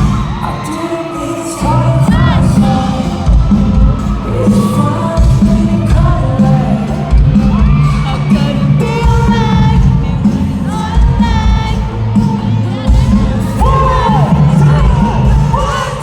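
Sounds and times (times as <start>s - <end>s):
crowd cheering and whooping: 0.0s - 16.0s
live pop music with bass beat: 0.0s - 16.0s
person singing: 0.0s - 16.0s.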